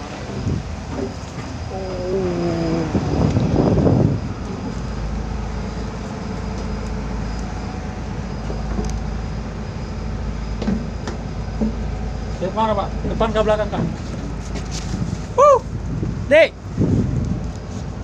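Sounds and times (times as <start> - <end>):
ship engine rumbling: 0.0 - 18.0.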